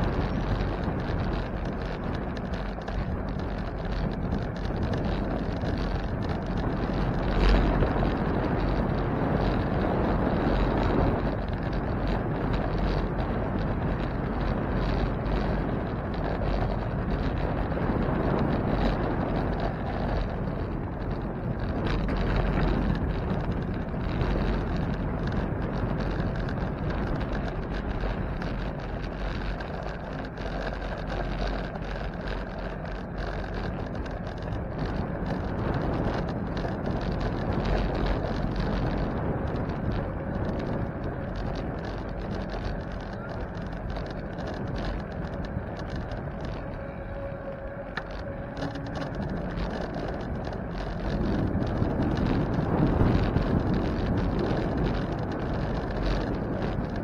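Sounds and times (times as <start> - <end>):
light clicking or rattling: 0.0 - 57.0
wind rushing over microphone: 0.0 - 57.0.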